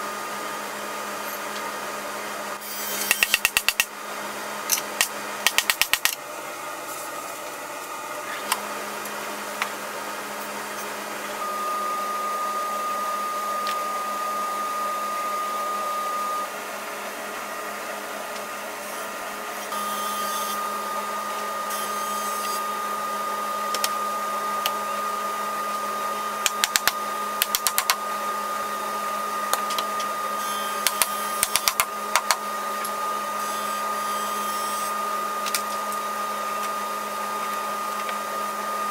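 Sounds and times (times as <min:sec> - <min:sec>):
whirring hum with high whine: 0:00.0 - 0:38.9.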